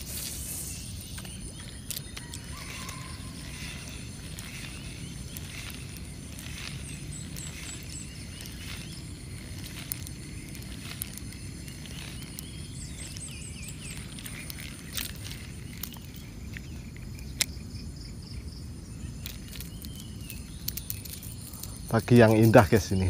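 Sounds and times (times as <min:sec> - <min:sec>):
birds chirping: 0:00.0 - 0:23.0
high insect whine: 0:00.0 - 0:23.0
low wind rumble: 0:00.0 - 0:23.0.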